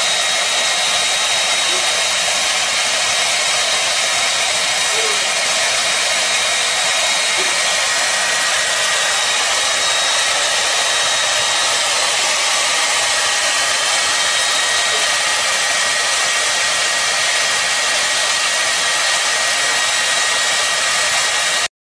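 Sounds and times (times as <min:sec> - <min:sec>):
hair dryer running: 0:00.0 - 0:21.7.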